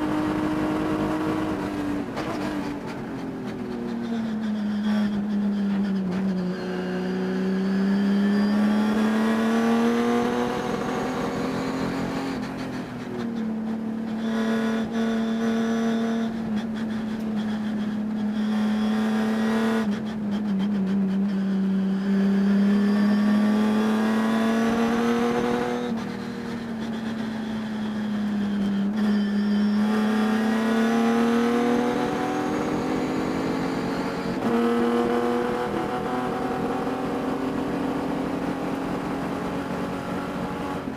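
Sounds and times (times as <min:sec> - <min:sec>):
race car engine revving: 0:04.8 - 0:12.8, 0:13.6 - 0:40.9.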